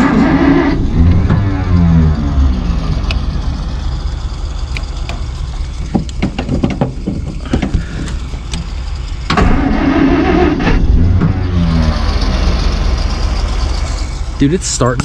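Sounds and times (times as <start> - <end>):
engine starting and rumbling: 0.0 - 15.0.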